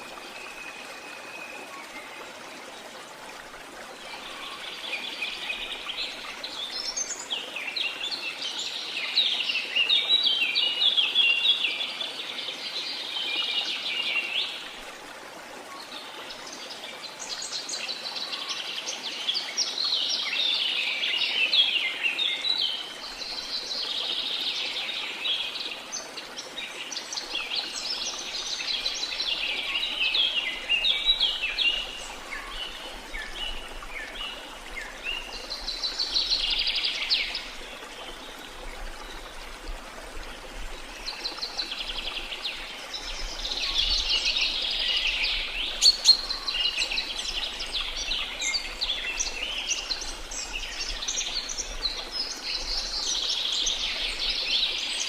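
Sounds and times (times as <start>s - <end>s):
faint water hiss: 0.0s - 55.0s.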